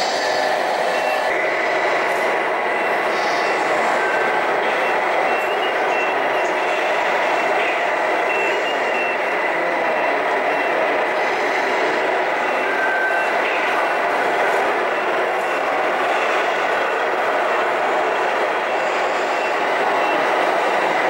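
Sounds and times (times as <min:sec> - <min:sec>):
electronic truck engine sound: 0:00.0 - 0:21.0.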